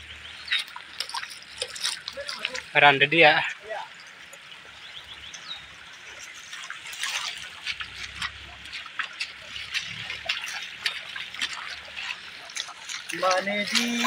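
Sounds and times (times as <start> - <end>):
feet splashing wading in water: 0.0 - 2.8, 5.1 - 14.0
stream running over stones: 0.0 - 14.0.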